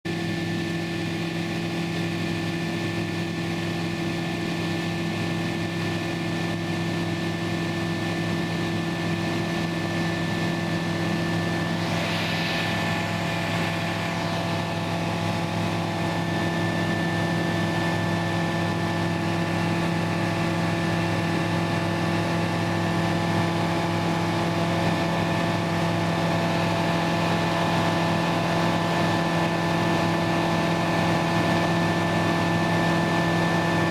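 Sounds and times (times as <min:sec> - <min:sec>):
aircraft engine droning: 0:00.1 - 0:33.9.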